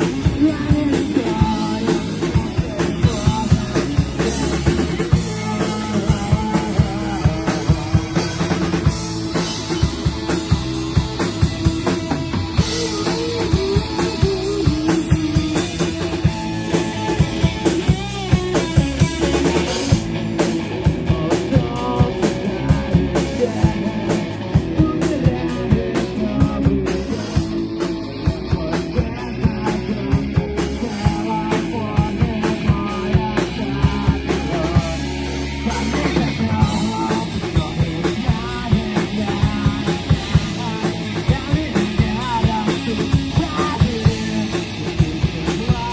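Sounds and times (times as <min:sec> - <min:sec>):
pounding drum kit: 0:00.0 - 0:45.9
rock band playing live: 0:00.0 - 0:45.9.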